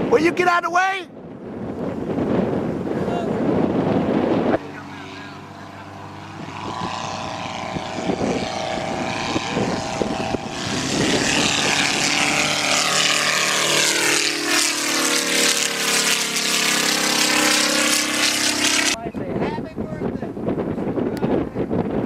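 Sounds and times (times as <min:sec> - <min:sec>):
propeller plane flying by: 0:01.0 - 0:22.0.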